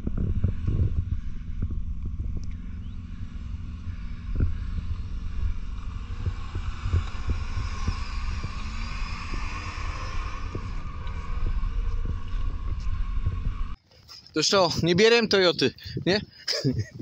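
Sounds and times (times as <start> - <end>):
high whine: 0.0 - 16.9
off-road vehicle engine rumble: 0.0 - 17.0.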